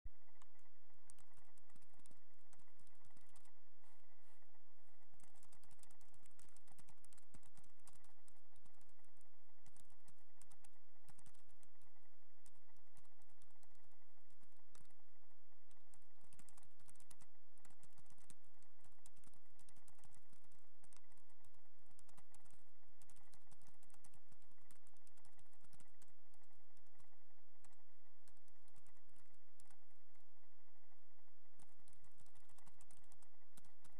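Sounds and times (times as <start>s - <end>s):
keyboard typing: 0.3s - 15.0s, 15.6s - 30.2s, 31.5s - 33.9s.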